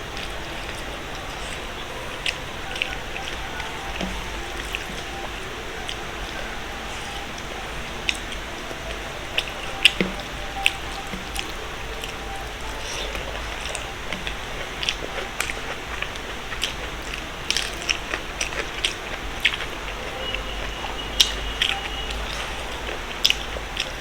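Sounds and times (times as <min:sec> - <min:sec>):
person chewing food: 0:00.0 - 0:24.0
steady hiss: 0:00.0 - 0:24.0.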